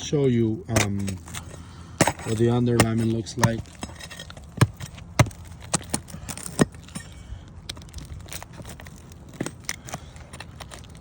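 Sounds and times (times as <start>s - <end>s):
scraping and crinkling: 0.0s - 11.0s
shingles clicking and knocking: 0.0s - 11.0s.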